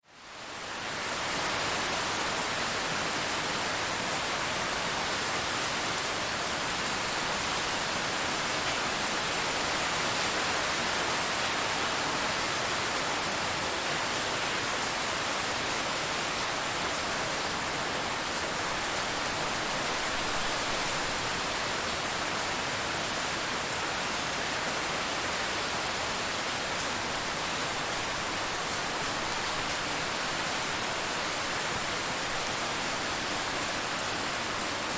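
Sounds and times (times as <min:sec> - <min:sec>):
dense rain hiss: 0:00.1 - 0:34.9.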